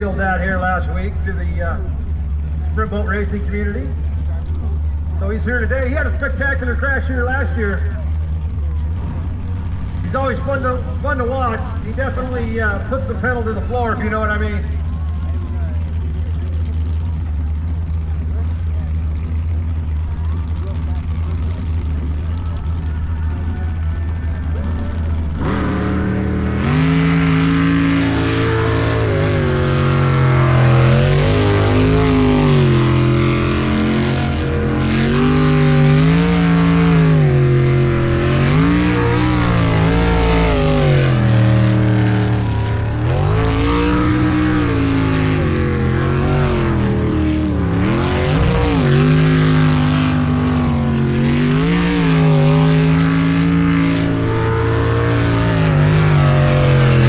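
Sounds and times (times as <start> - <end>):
boat engine revving: 0.0 - 57.0.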